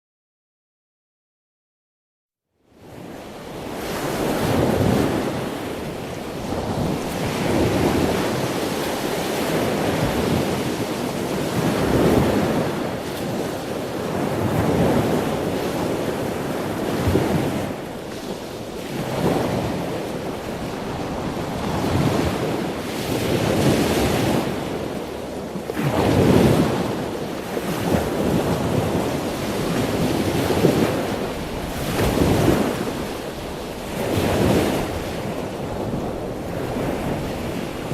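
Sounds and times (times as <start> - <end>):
ocean waves breaking: 2.8 - 37.9.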